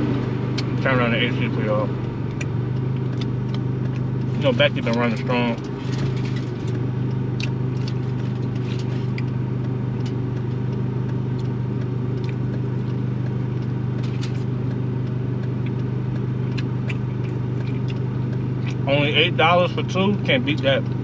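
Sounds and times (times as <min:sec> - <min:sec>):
car cabin engine and road hum: 0:00.0 - 0:21.0.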